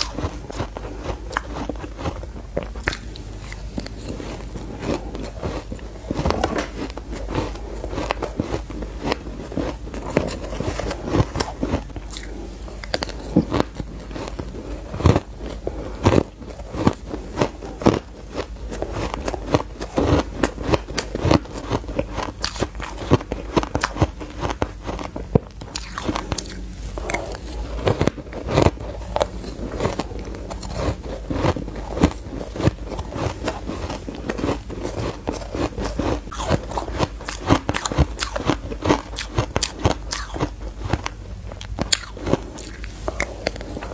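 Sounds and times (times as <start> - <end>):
crunching shaved ice: 0.0 - 43.9.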